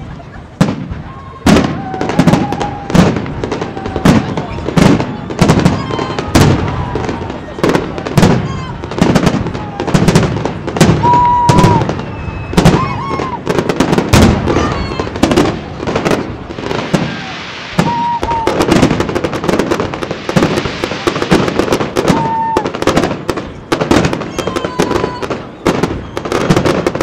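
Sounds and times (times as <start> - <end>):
fireworks crackling: 0.0 - 27.0
firework shells bursting: 0.6 - 27.0.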